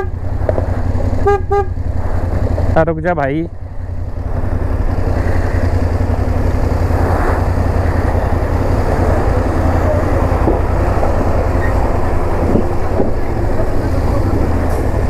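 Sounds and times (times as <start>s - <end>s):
lorry engine passing: 0.0s - 15.0s
motorcycle engine rumbling: 0.0s - 15.0s.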